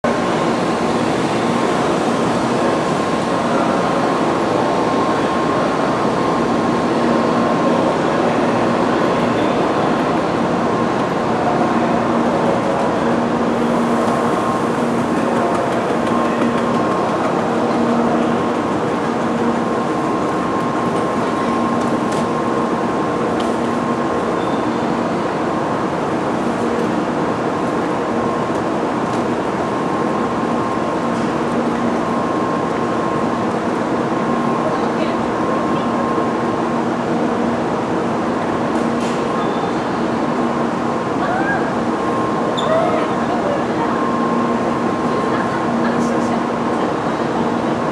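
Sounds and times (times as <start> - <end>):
train equipment hum and whir: 0.0 - 47.9.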